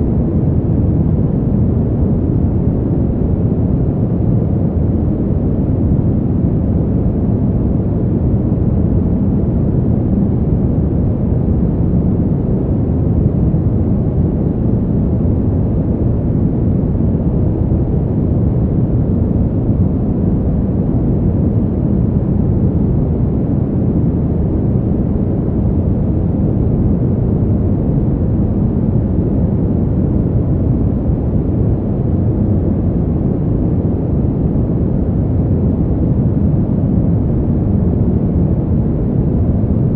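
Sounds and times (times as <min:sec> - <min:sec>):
deep steady wind: 0:00.0 - 0:39.9.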